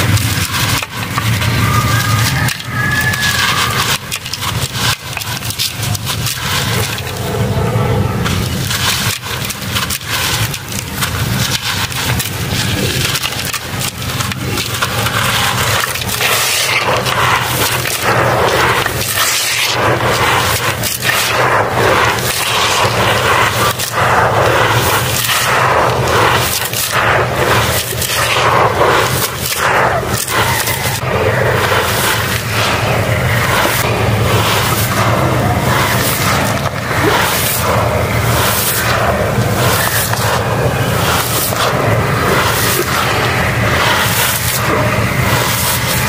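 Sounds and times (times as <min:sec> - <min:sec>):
dry dirt pouring into metal tub: 0:00.0 - 0:07.4, 0:08.2 - 0:46.0.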